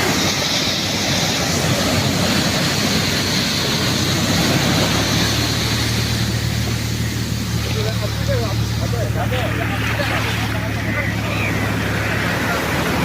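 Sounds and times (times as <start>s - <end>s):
low engine hum: 0.0s - 13.0s
surf rushing: 0.0s - 13.0s.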